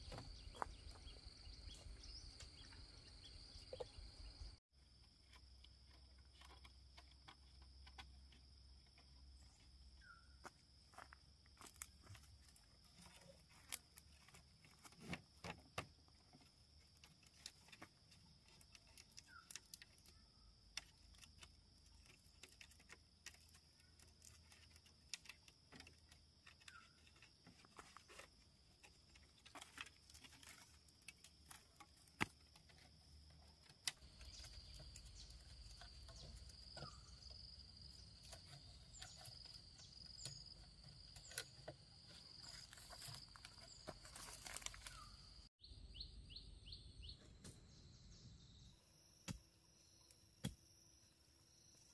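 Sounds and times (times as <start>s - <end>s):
insect chorus hum: 0.0s - 51.9s.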